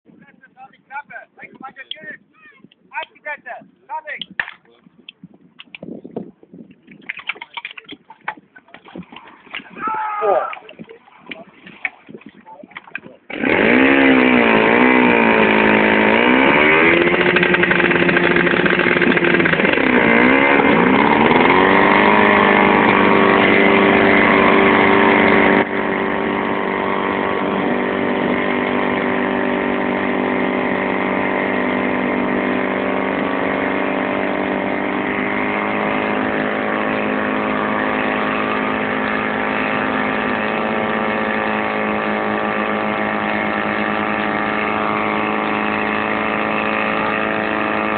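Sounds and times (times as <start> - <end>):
pump engine starting and revving: 7.0 - 47.9.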